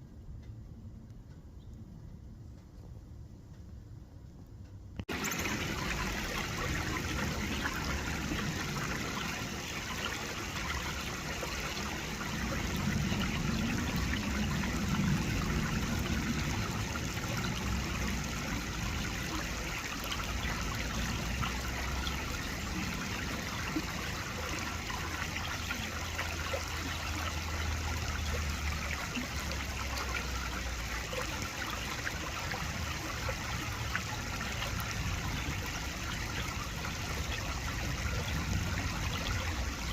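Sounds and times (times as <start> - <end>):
stream trickling and burbling: 5.0 - 39.9.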